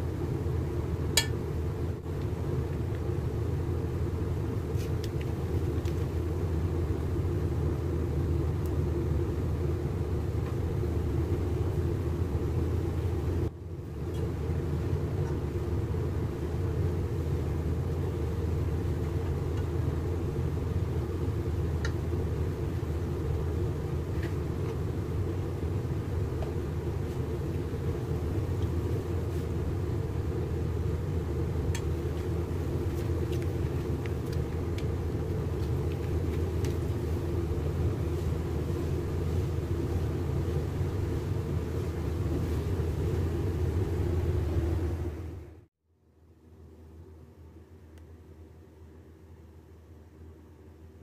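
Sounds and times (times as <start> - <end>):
low background rumble: 0.0 - 51.0.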